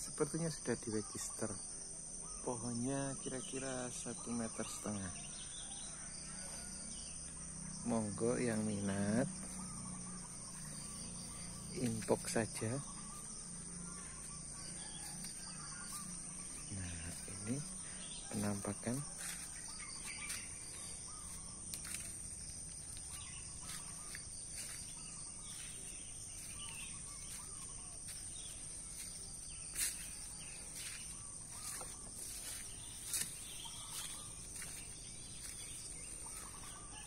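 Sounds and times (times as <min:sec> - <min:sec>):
faint bird chirps: 0:00.0 - 0:37.0
insect drone: 0:00.0 - 0:37.0.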